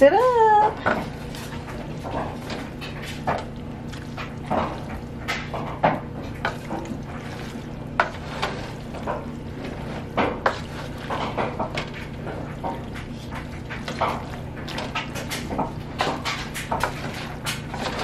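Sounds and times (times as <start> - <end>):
steady low hum: 0.0 - 18.0
wet squelches of pasta in sauce: 1.0 - 5.5, 6.2 - 18.0.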